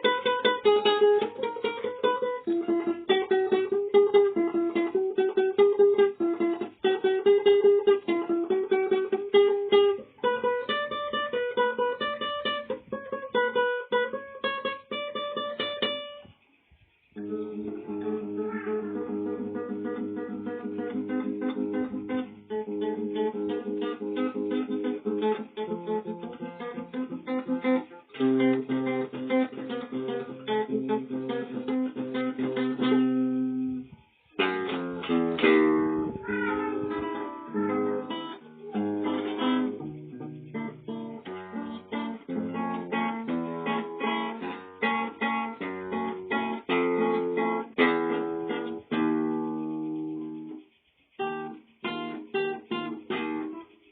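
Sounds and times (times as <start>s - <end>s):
acoustic guitar playing chords: 0.0s - 16.3s, 17.1s - 53.9s.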